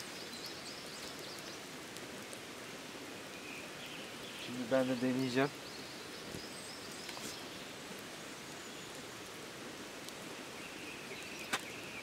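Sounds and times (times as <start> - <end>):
light rain hissing: 0.0 - 12.0.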